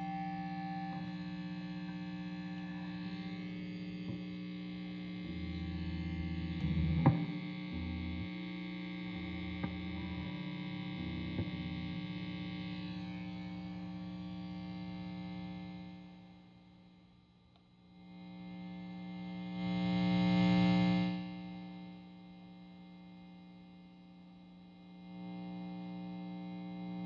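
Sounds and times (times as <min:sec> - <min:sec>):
guitar amplifier buzz and hum: 0:00.0 - 0:27.0.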